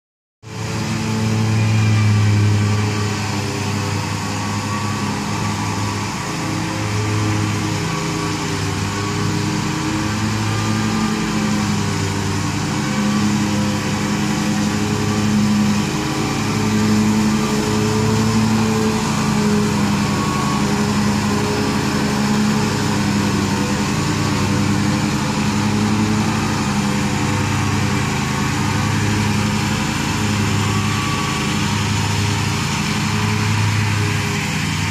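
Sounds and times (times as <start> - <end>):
mower blades cutting grass: 0.4 - 34.9
riding mower engine running: 0.4 - 34.9.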